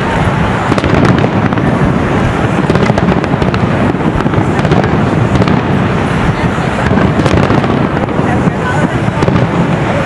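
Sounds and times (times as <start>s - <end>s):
fireworks booms: 0.0s - 10.0s
sharp firework cracks: 0.0s - 10.0s.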